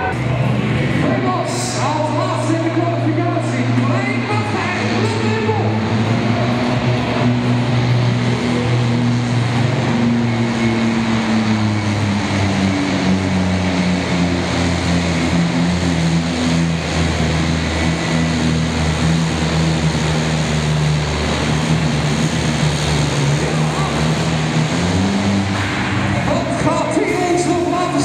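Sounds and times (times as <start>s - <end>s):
diesel engine under full load: 0.0s - 28.0s.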